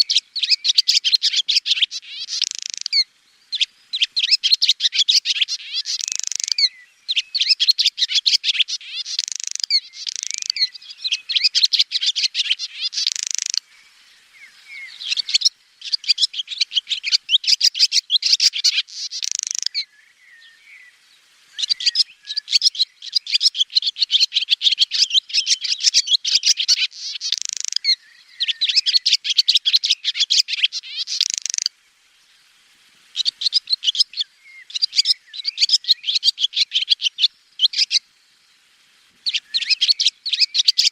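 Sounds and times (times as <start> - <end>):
swallow twittering: 0.0 - 31.7, 33.1 - 38.0, 39.2 - 40.9.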